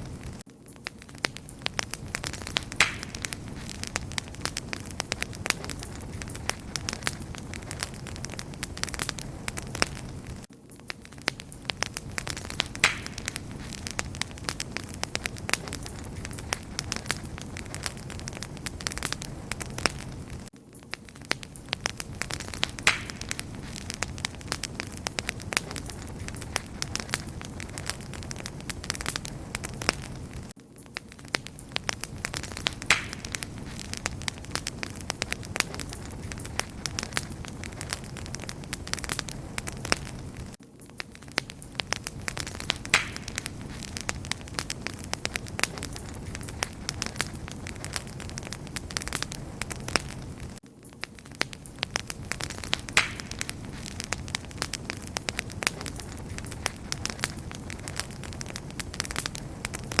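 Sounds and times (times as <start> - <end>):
low rumble of flames: 0.0 - 60.0
wood fire crackling: 0.0 - 60.0.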